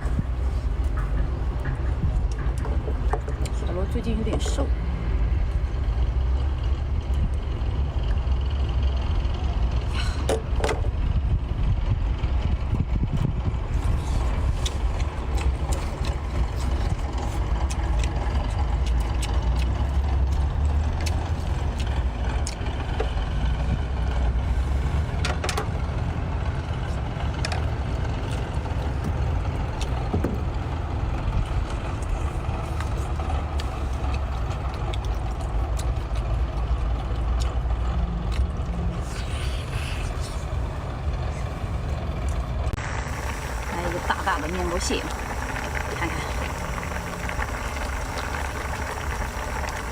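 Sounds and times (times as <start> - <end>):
engine droning: 0.0 - 49.9.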